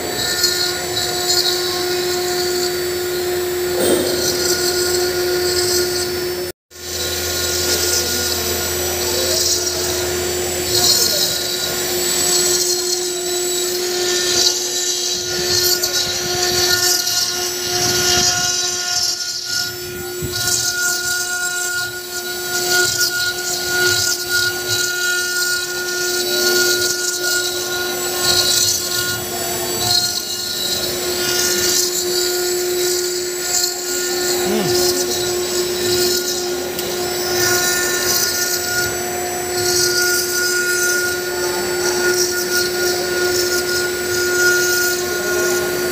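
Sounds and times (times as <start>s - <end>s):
bit cutting stone hiss: 0.0s - 45.9s
router spindle whining: 0.0s - 45.9s.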